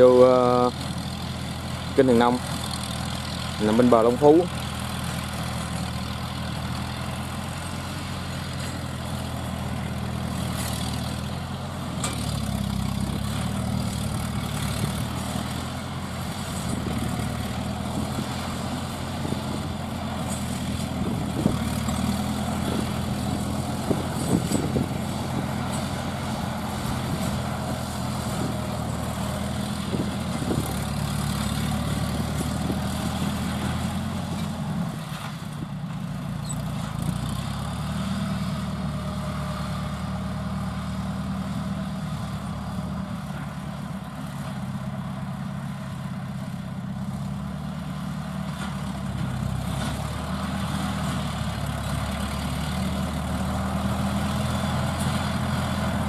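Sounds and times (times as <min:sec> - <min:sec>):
tiller engine running: 0:00.0 - 0:56.0.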